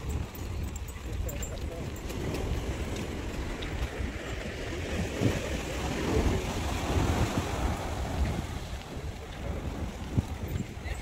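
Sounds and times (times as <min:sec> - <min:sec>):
waves breaking on rocky shore: 0:00.0 - 0:11.0
wind rumbling on microphone: 0:00.0 - 0:11.0.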